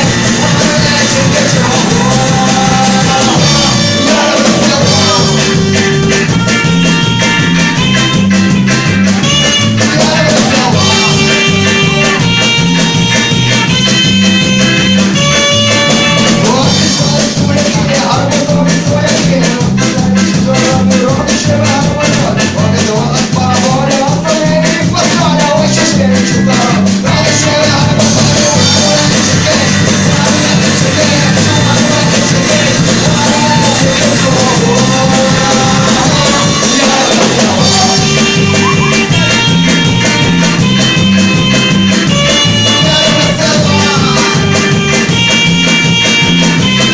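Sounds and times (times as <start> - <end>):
live ska-like rock band: 0.0 - 46.9.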